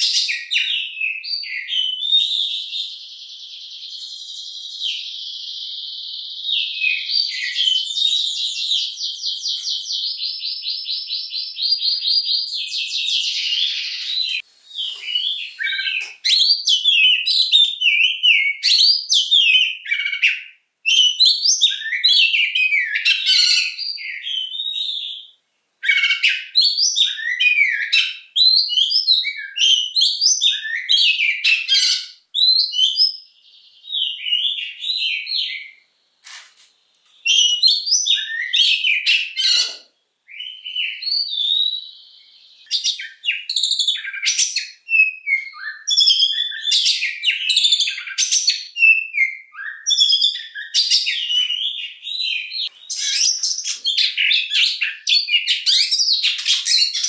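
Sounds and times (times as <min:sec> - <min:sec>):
bird singing chirps and trills: 0:00.0 - 0:35.9, 0:37.1 - 0:57.0.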